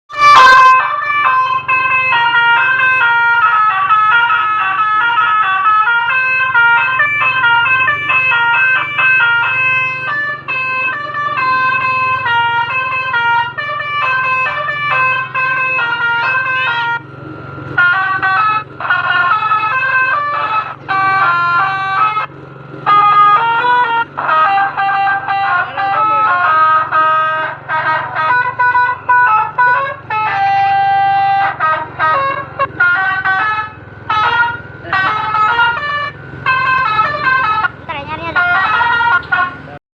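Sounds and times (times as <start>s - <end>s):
multi-tone bus horn tune: 0.1s - 39.8s.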